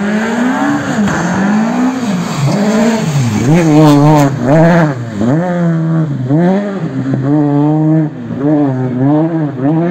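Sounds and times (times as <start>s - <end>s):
rally car engine revving: 0.0s - 9.9s.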